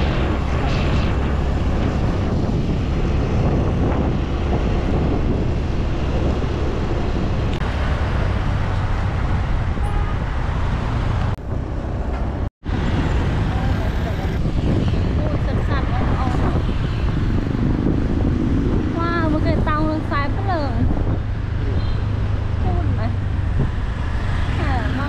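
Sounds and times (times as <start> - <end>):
road noise: 0.0 - 25.0
wind rushing over microphone: 0.0 - 25.0.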